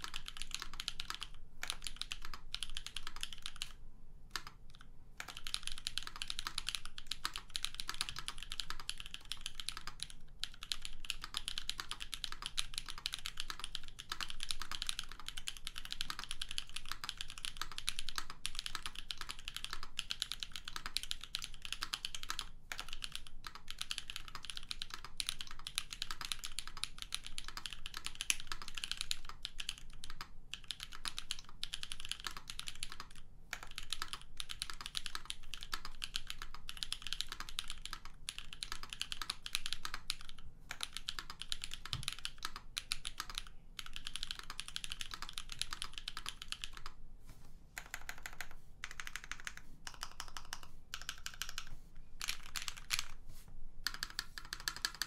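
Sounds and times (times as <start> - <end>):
mechanical keyboard typing: 0.0 - 47.0, 47.8 - 53.2, 53.8 - 55.0.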